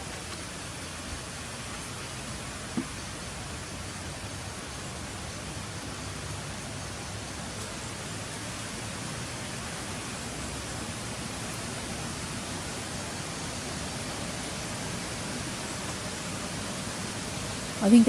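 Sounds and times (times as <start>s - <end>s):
rain: 0.0s - 18.0s
wind: 0.0s - 18.0s.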